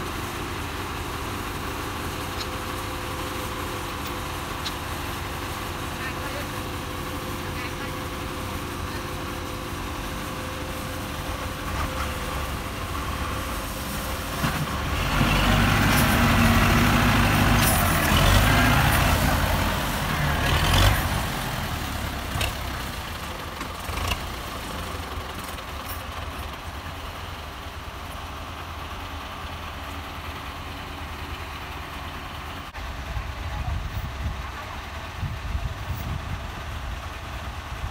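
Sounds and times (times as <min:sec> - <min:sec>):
diesel tractor engines revving: 0:00.0 - 0:37.9.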